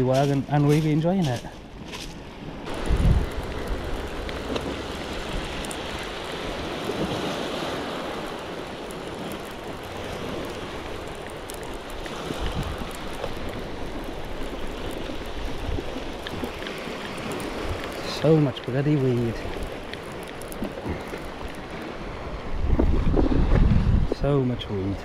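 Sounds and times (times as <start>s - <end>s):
waves washing onto shingle: 0.0s - 25.0s
wind buffeting microphone: 2.5s - 25.0s.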